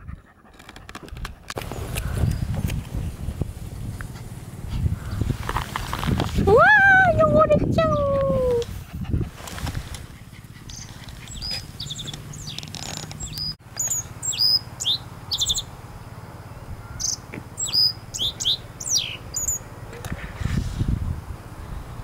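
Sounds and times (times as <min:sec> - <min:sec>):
songbirds chirping and whistling: 0:01.5 - 0:20.6.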